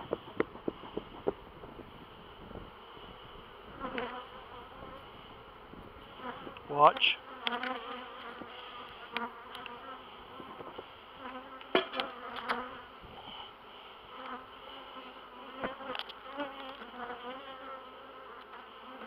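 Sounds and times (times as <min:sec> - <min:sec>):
honey bee colony buzzing: 0:00.0 - 0:19.0.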